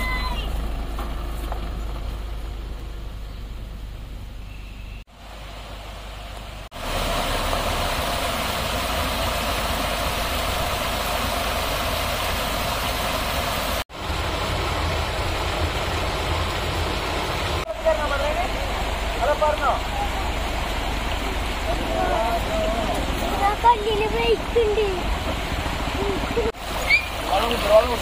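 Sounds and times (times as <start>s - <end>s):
pickup truck engine and road noise: 0.0s - 28.0s.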